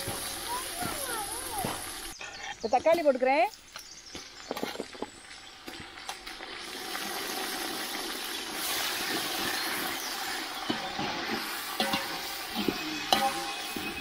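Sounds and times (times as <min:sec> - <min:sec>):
tomatoes sizzling in hot oil: 0:00.0 - 0:02.2, 0:04.1 - 0:14.0.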